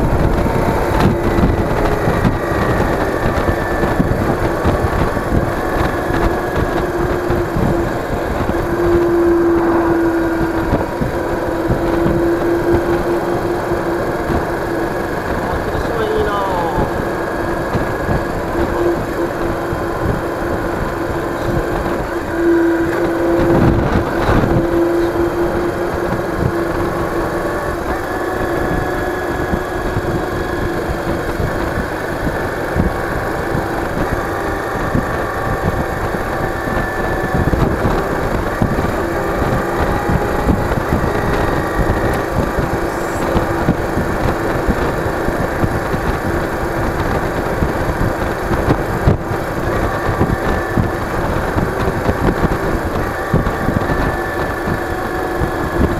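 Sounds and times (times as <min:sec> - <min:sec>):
motorcycle engine cruising: 0:00.0 - 0:55.9
road and wind noise: 0:00.0 - 0:55.9.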